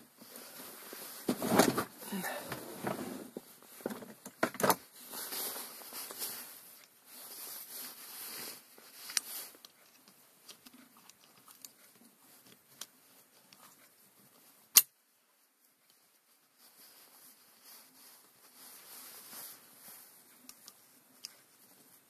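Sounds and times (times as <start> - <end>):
rustling handling noise: 0.0 - 22.0.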